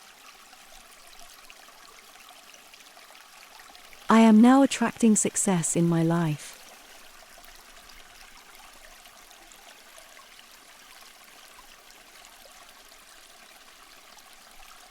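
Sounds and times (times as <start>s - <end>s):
water stream flowing: 0.0s - 14.9s.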